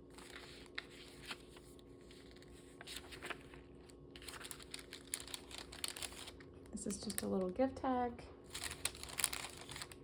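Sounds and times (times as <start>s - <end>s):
paper pages rustling: 0.0s - 7.4s, 8.5s - 10.0s
low steady hum: 0.0s - 10.0s.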